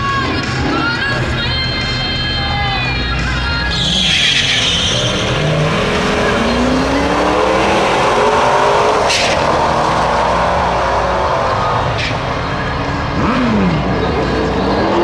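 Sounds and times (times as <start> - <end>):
drag car engines accelerating: 0.0 - 15.0.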